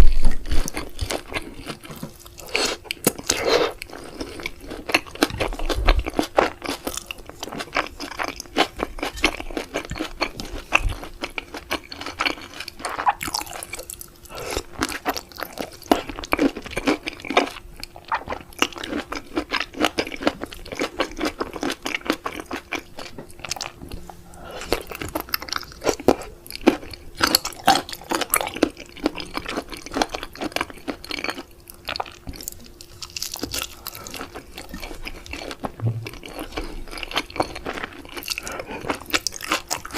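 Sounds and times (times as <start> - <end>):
chewing and crunching seafood: 0.0 - 39.9
faint steady hum: 0.0 - 39.9.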